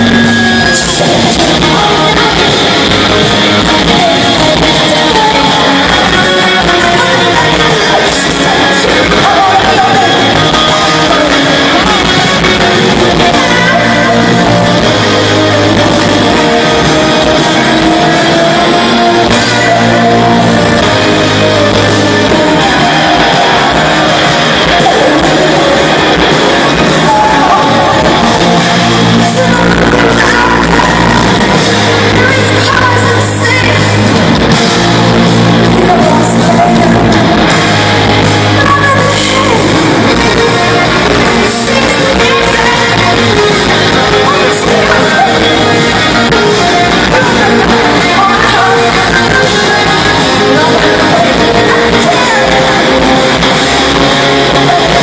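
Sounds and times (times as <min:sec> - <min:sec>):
live rock band playing: 0:00.0 - 0:55.0
woman singing: 0:00.1 - 0:34.2, 0:35.6 - 0:37.2, 0:38.6 - 0:55.0.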